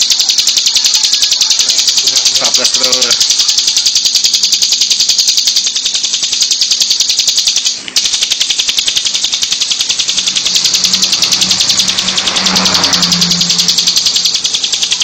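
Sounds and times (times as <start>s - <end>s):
bird buzzing trill: 0.0s - 15.0s.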